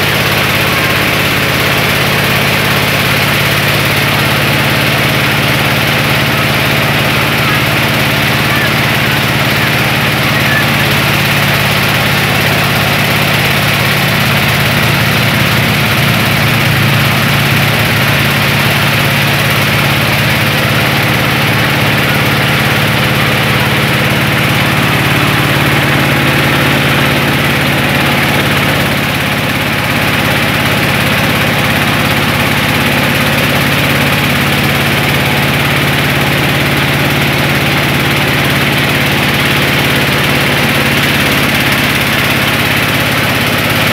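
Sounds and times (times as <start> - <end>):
rice milling machine engine: 0.0 - 43.9.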